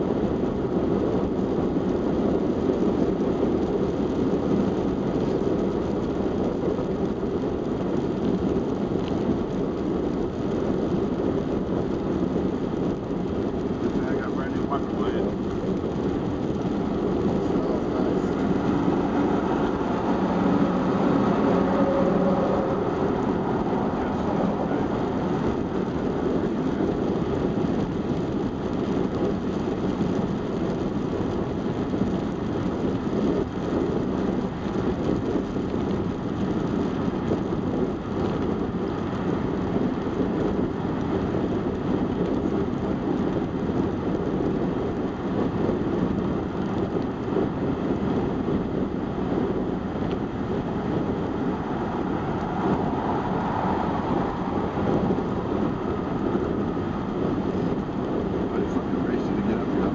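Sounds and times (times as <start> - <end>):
engine hum: 0.0 - 59.9
tyres on asphalt: 0.0 - 59.9
wind noise: 0.0 - 59.9.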